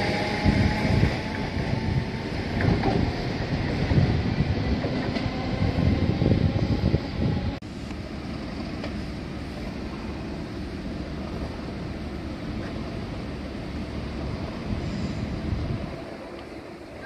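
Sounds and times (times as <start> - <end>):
passing train: 0.0 - 17.0
railway station background noise: 0.0 - 17.0.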